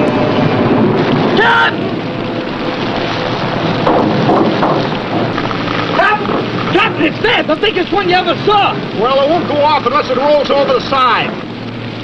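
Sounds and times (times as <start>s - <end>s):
driving rain: 0.0s - 12.0s.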